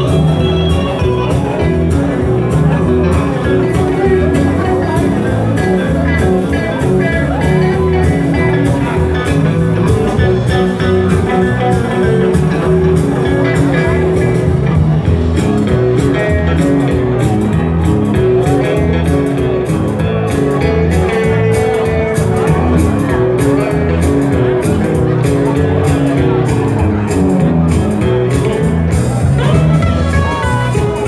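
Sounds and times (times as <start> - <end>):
bass guitar: 0.0 - 31.0
electric guitars: 0.0 - 31.0
steady drum beat: 0.0 - 31.0.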